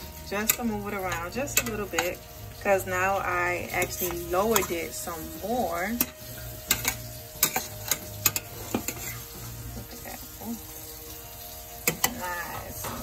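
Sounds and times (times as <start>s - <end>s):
metal spoon scraping a pan: 0.0s - 13.0s
sauce sizzling: 0.0s - 13.0s.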